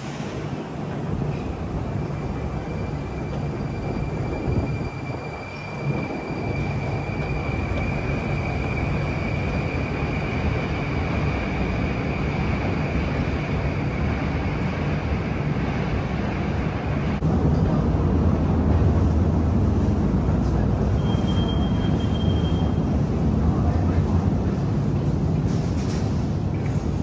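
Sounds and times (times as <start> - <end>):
metro train rumbling: 0.0 - 27.0.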